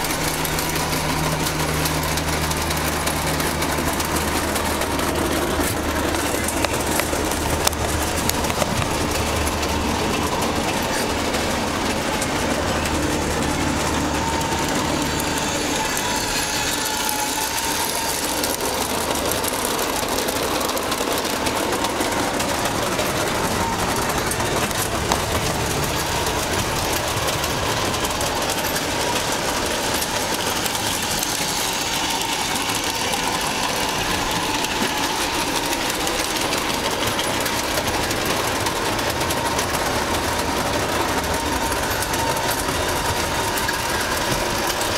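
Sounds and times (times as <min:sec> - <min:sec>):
constant motor whine: 0:00.0 - 0:44.9
model train running: 0:00.0 - 0:44.9
wheels clicking on track: 0:00.0 - 0:44.9.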